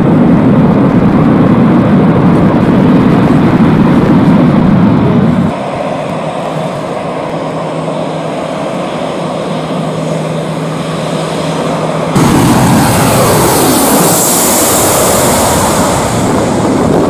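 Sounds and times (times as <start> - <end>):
airliner engines running: 0.0 - 17.0.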